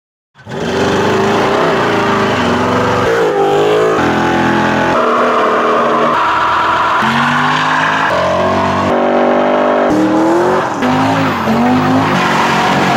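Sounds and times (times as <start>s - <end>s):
car engines revving: 0.4s - 12.9s.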